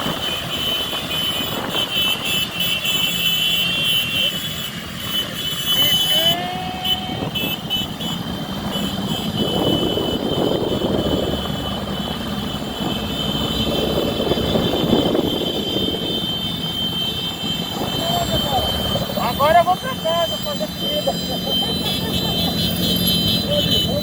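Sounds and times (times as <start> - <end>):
road rumble: 0.0 - 24.0
vehicle engine: 0.0 - 24.0
wind: 0.0 - 24.0.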